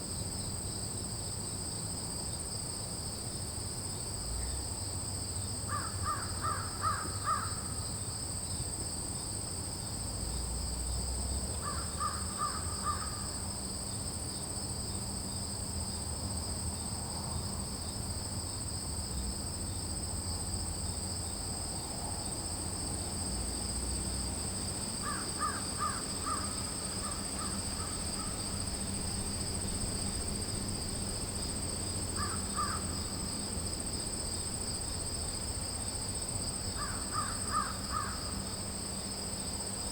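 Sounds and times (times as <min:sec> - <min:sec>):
insects trilling: 0:03.6 - 0:39.9.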